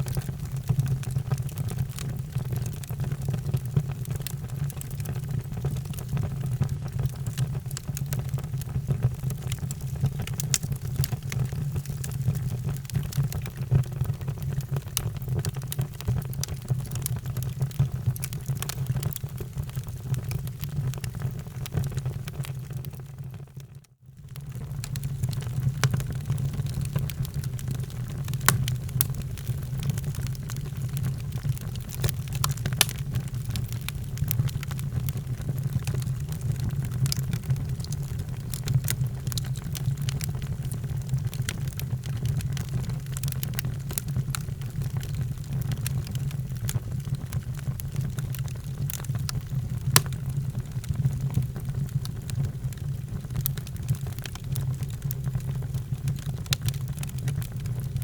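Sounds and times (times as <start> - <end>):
wood fire crackling: 0.0 - 23.2, 24.3 - 58.0.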